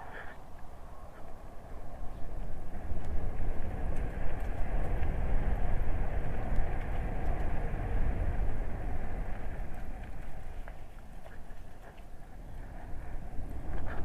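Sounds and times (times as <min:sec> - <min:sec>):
wind and road noise rumble: 0:00.0 - 0:14.0.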